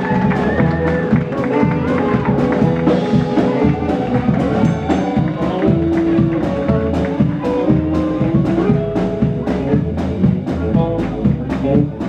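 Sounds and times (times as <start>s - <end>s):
blues band playing: 0.0s - 12.0s
steady drum beat: 0.0s - 12.0s.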